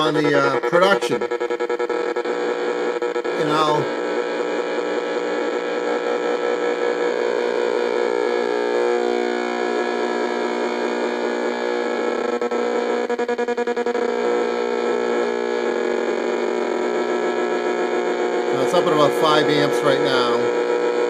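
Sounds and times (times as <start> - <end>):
radio buzzing drone: 0.0 - 21.0.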